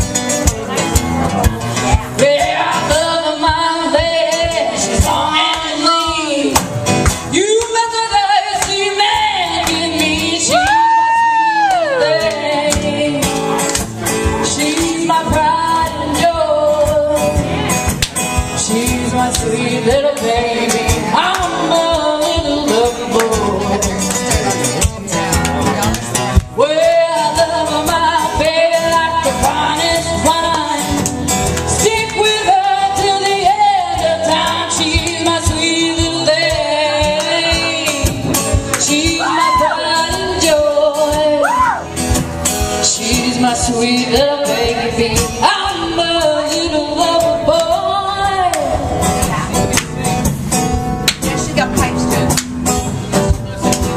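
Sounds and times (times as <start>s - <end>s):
strummed acoustic guitar: 0.0s - 53.9s
person singing: 1.8s - 6.7s, 7.3s - 17.7s, 18.5s - 41.9s, 42.7s - 49.4s.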